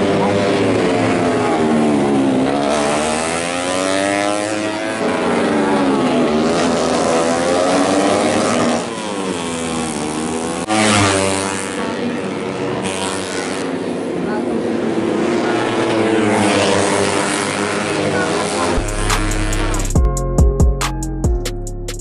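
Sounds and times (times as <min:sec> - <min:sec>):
racing motorcycles revving: 0:00.0 - 0:20.1.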